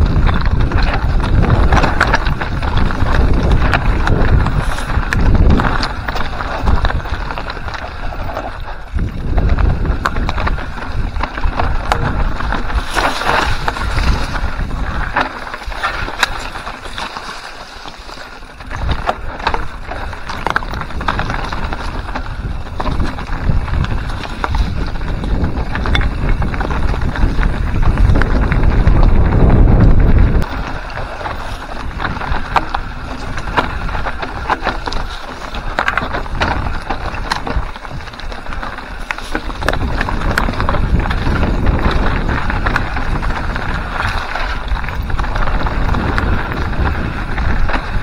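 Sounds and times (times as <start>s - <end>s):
bike rattling: 0.0s - 48.0s
tyres rolling over loose stones: 0.0s - 48.0s
wind rumbling on microphone: 0.0s - 48.0s.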